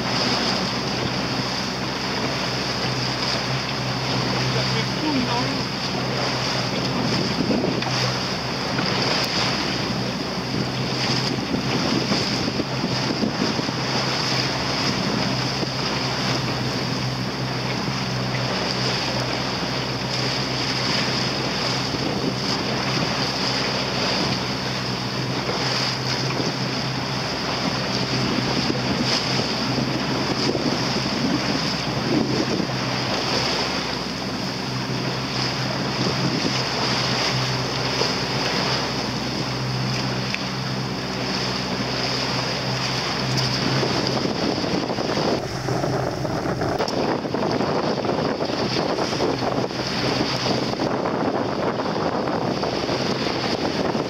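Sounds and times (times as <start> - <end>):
boat engine droning: 0.0 - 54.0
water rushing along hull: 0.0 - 54.0
wind buffeting microphone: 0.0 - 54.0.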